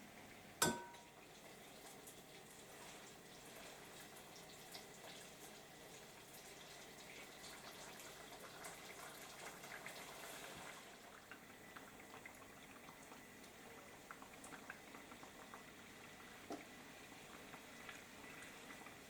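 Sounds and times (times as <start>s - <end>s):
food bubbling on stove: 0.0s - 19.0s.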